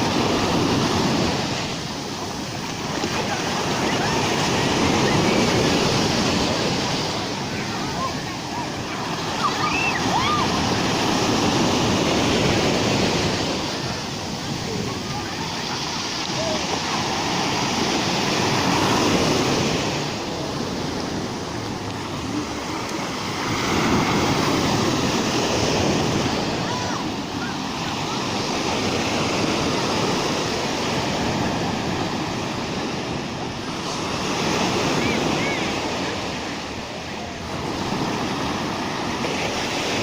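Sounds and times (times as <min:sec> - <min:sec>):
rough sea surf breaking on shore: 0:00.0 - 0:40.0.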